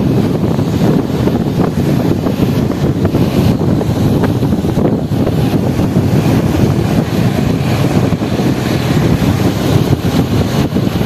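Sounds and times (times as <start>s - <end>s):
motorcycle engine and road noise: 0.0s - 11.0s
wind buffeting microphone: 0.0s - 11.0s.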